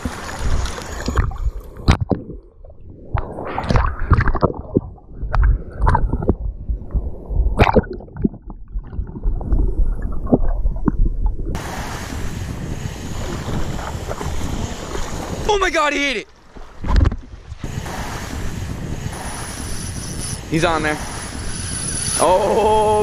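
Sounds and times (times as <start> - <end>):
muffled water sloshing: 0.0 - 19.8.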